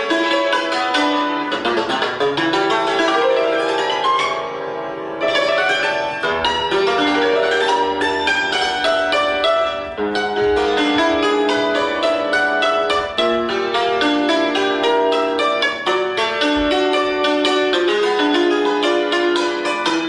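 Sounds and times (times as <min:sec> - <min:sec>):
cimbalom played with mallets: 0:00.0 - 0:20.0.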